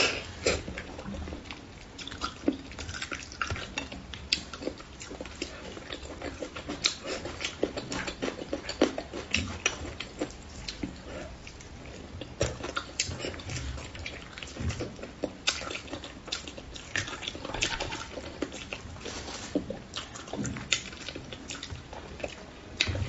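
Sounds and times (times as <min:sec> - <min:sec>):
wet chewing and lip smacks: 0:00.0 - 0:23.0.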